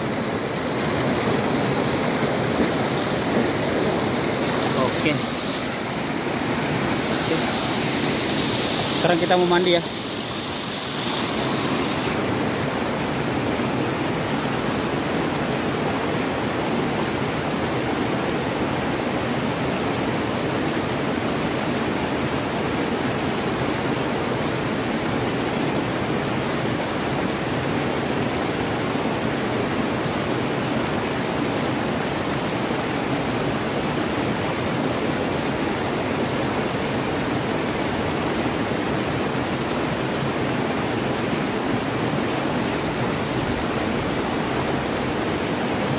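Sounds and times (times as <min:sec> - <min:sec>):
water rushing over rocks: 0:00.0 - 0:45.9.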